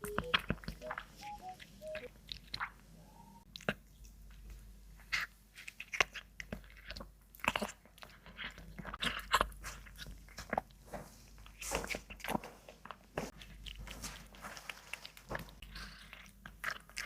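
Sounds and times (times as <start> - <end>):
cat chewing and biting meat: 0.0 - 17.0.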